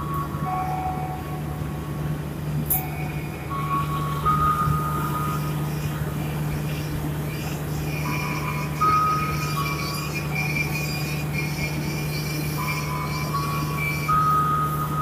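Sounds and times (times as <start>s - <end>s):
electric train passing: 0.0s - 15.0s
faint steady tones: 0.0s - 15.0s.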